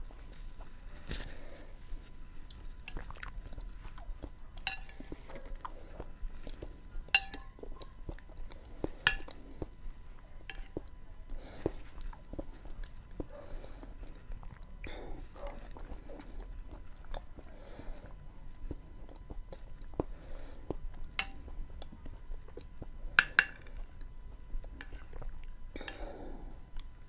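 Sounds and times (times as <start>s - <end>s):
chewing and mouth sounds: 0.0s - 27.0s.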